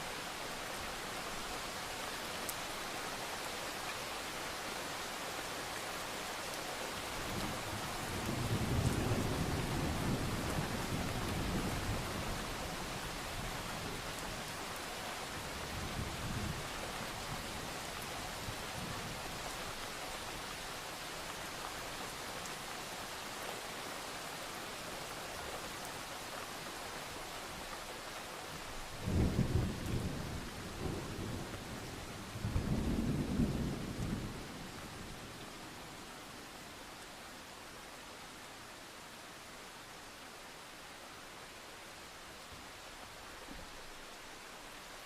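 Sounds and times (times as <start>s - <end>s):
steady rain: 0.0s - 45.0s.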